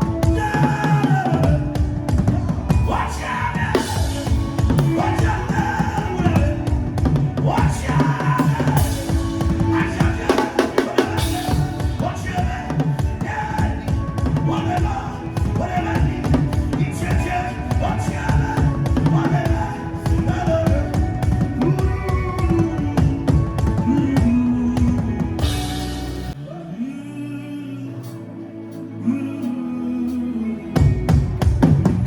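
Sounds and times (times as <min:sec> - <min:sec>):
fast drumming: 0:00.0 - 0:26.4.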